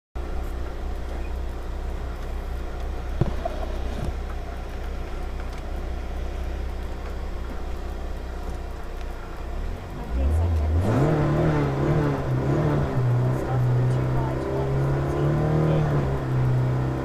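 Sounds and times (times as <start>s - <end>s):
car engine idling: 0.2s - 17.0s.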